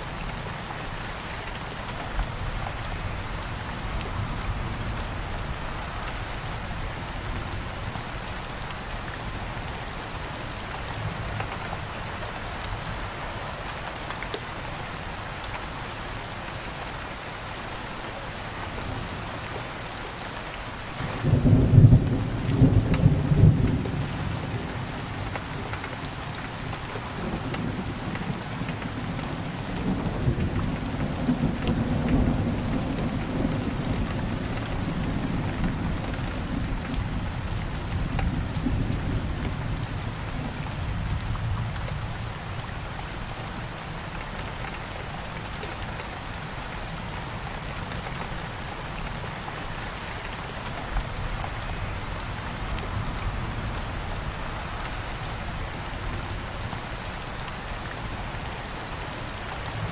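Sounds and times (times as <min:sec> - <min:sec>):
heavy rain on a window: 0:00.0 - 0:59.9.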